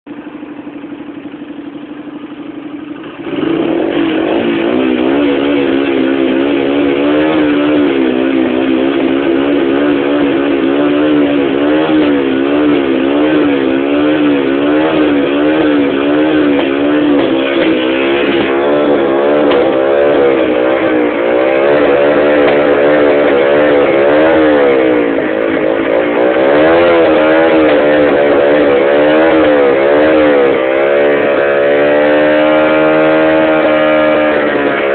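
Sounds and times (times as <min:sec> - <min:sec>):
two-stroke engine revving: 0:00.1 - 0:34.9.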